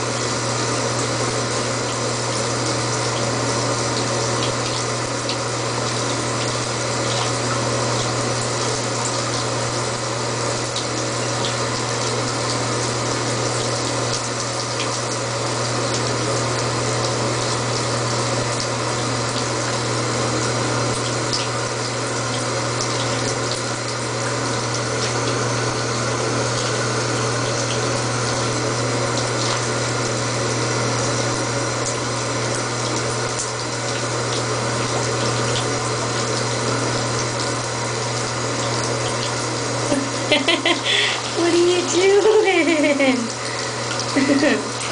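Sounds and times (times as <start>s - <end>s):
bathtub tap running: 0.0s - 44.9s.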